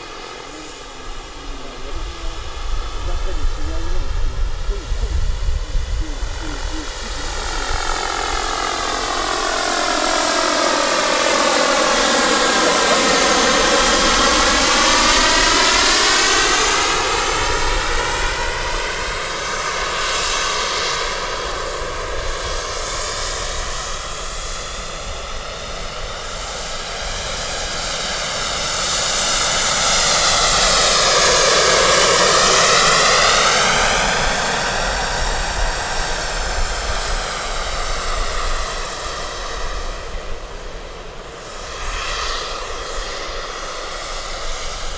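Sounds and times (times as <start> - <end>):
engine and rotor drone: 0.0 - 44.9
high turbine whistle: 0.0 - 44.9.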